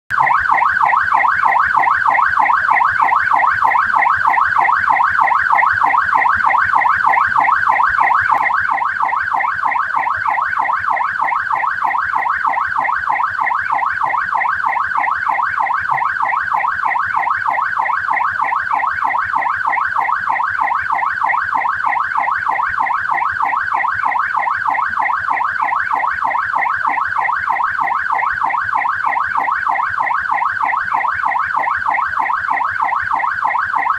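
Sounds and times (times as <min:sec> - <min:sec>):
police siren warbling: 0:00.1 - 0:33.9.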